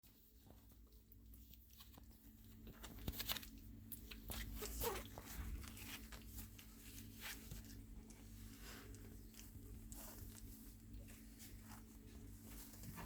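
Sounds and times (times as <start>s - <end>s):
puppies crunching and chewing: 0.1s - 13.0s.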